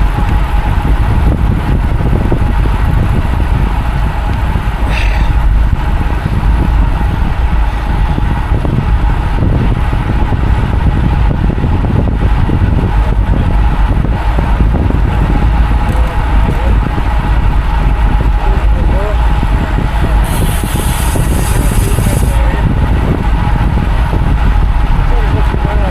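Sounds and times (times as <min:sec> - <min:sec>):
wind rushing over microphone: 0:00.0 - 0:25.9.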